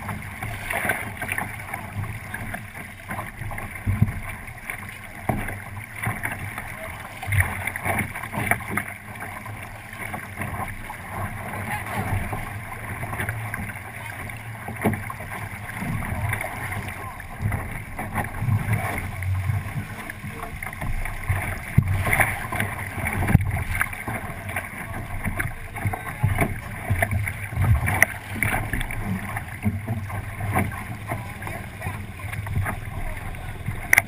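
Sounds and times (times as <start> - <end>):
hull slapping waves: 0.0 - 34.0
water rushing along hull: 0.0 - 34.0.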